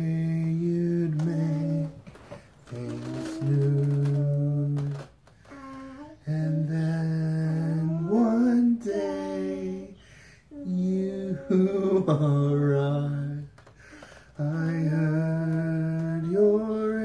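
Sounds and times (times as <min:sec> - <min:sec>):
man singing a lullaby: 0:00.0 - 0:17.0.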